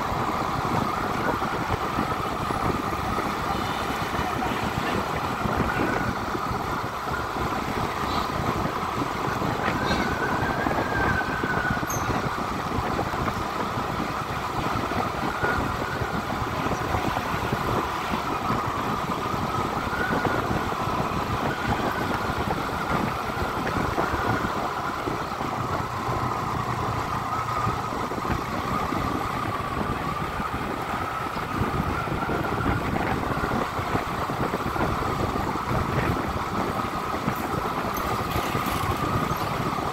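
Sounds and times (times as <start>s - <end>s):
vehicle road noise: 0.0s - 39.9s.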